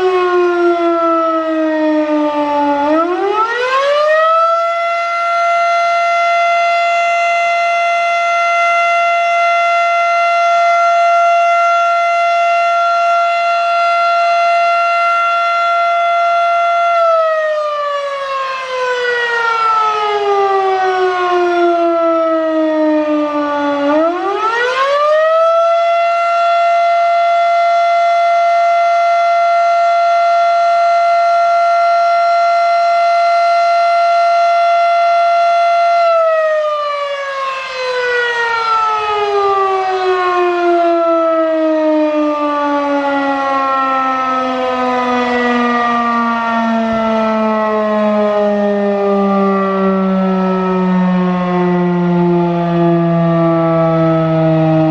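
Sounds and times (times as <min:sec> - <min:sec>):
outdoor warning siren: 0:00.0 - 0:54.9.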